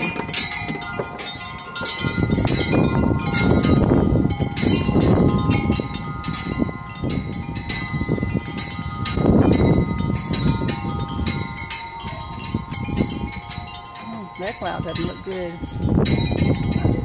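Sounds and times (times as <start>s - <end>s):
wind chimes ringing: 0.0s - 17.0s
wind rumbling on microphone: 0.0s - 17.0s.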